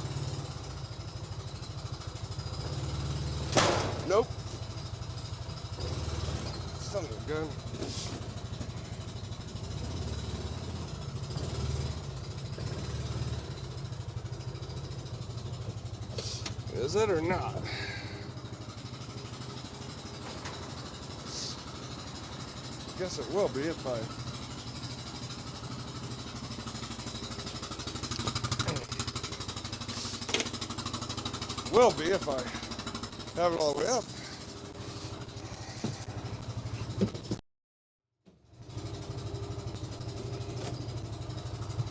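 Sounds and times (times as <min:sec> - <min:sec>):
small engine idling: 0:00.0 - 0:37.4, 0:38.3 - 0:41.9.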